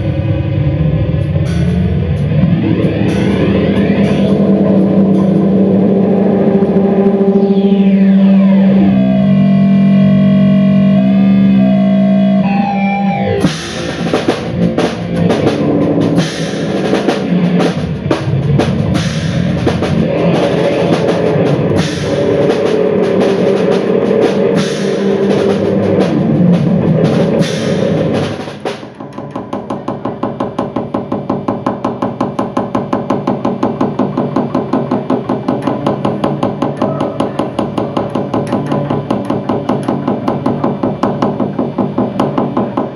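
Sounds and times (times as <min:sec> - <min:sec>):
drum kit playing: 0:00.0 - 0:42.9
sustained droning tones: 0:00.0 - 0:42.9.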